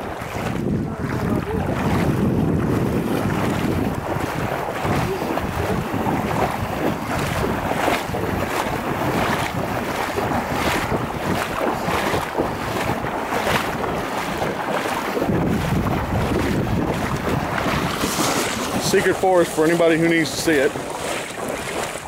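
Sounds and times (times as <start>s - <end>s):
wading through water sloshing: 0.0s - 22.0s
wind buffeting microphone: 0.0s - 22.0s.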